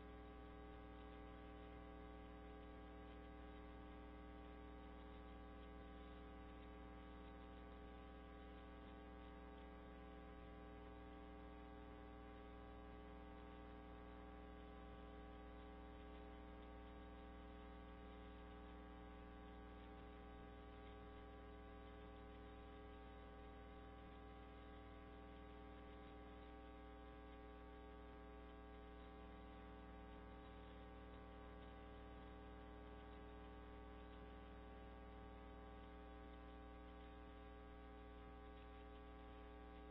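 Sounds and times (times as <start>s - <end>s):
faint electrical mains hum: 0.0s - 39.9s.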